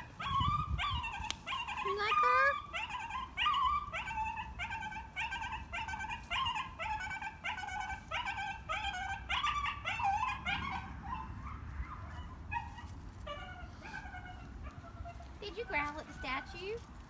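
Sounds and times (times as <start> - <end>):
dog whining: 0.0 - 15.3.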